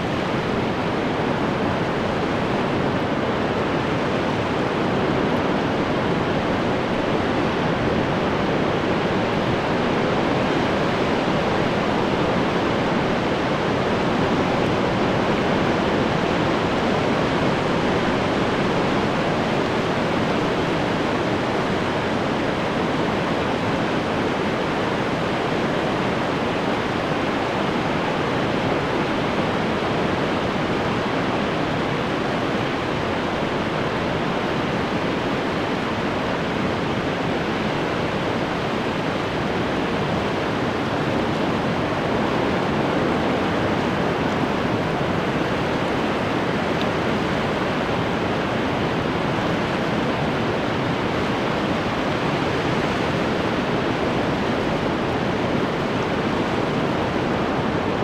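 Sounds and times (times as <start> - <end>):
waves washing on shore: 0.0 - 58.0.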